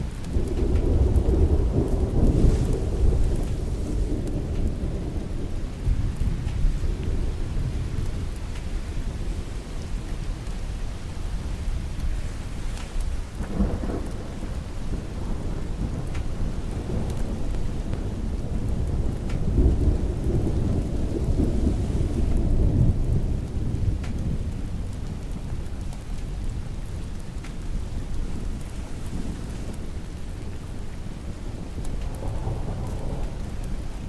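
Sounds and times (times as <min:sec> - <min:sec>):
rolling thunder: 0:00.0 - 0:26.7, 0:27.7 - 0:34.0
steady rain: 0:00.0 - 0:34.0.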